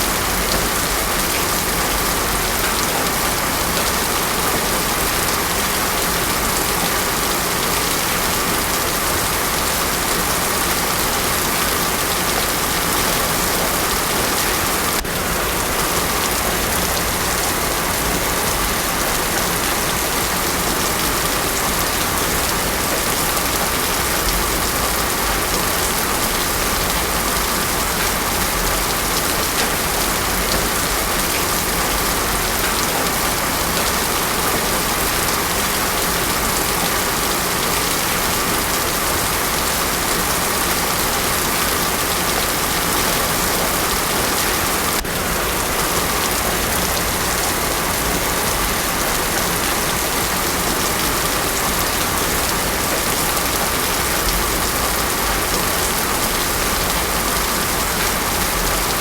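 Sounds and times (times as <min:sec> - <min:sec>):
heavy rain on paved road: 0:00.0 - 0:59.0.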